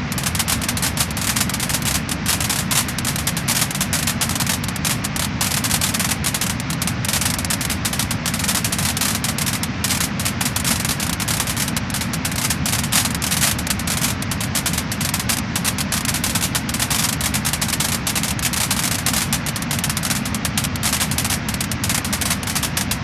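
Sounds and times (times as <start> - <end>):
low rumble of flames: 0.0 - 23.0
wood fire crackling and popping: 0.0 - 23.0.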